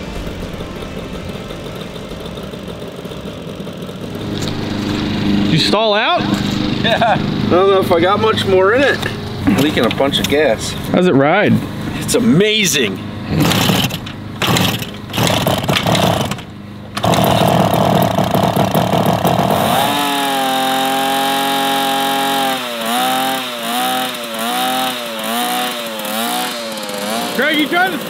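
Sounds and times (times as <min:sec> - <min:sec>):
two-stroke motorcycle engine buzzing: 0:00.0 - 0:28.0.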